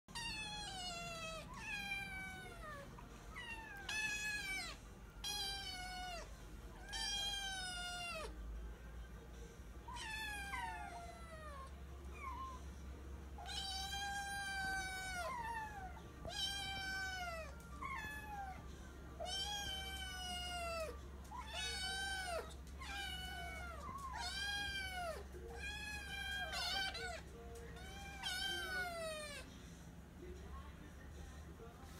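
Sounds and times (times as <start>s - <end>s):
kittens meowing: 0.1s - 8.4s, 9.9s - 12.7s, 13.4s - 29.5s.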